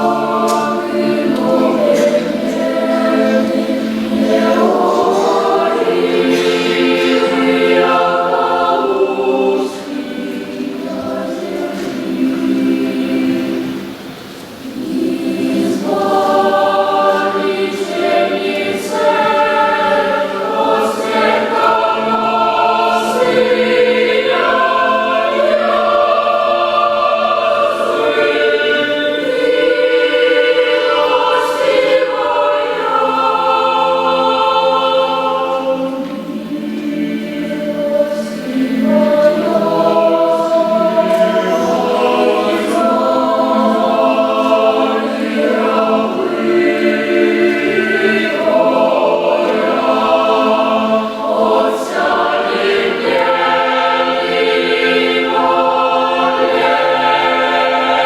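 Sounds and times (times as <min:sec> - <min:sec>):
a cappella choir singing: 0:00.0 - 0:58.0.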